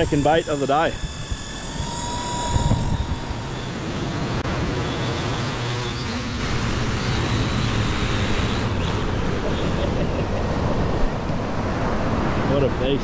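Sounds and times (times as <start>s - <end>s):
drone propellers buzzing: 0.0s - 13.0s
wind noise: 0.0s - 13.0s.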